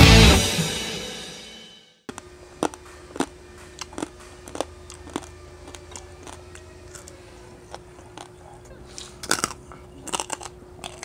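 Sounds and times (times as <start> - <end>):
crunchy chewing: 2.1 - 11.0.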